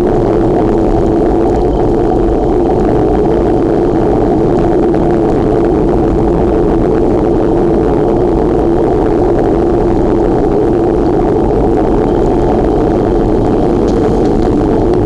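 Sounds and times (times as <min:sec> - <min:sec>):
wind rushing on microphone: 0:00.0 - 0:15.0.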